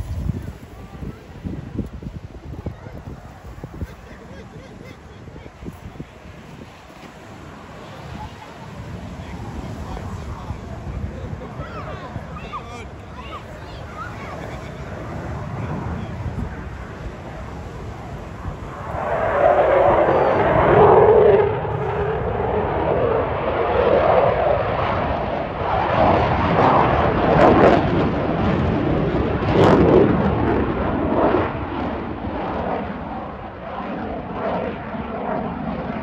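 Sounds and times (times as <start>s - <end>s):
jet engines in afterburner: 0.0s - 36.0s.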